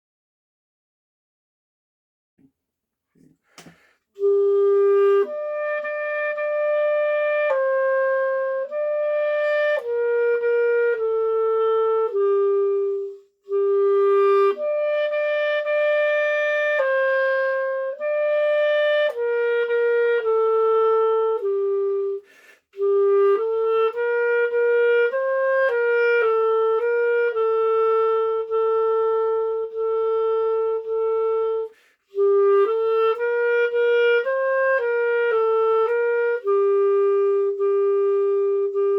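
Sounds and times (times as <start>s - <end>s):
solo clarinet melody: 3.6s - 38.9s.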